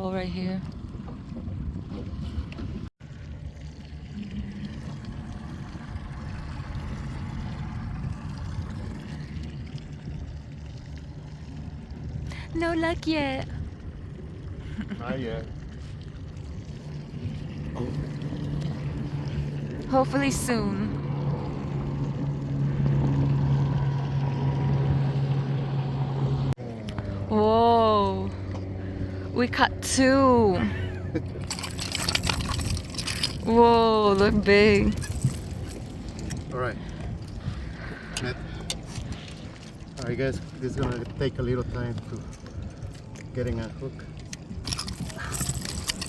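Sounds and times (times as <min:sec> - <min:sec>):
boat motor rumbling: 0:00.0 - 0:46.0
water and wind noise: 0:00.0 - 0:46.0.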